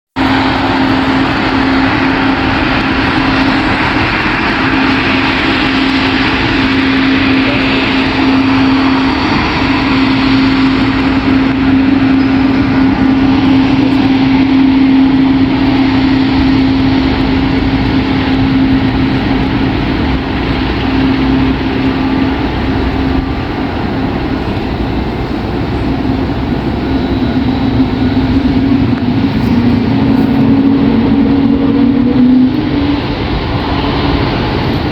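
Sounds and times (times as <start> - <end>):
jet airliner takeoff roar: 0.1 - 34.9
wavering humming tone: 0.2 - 34.9.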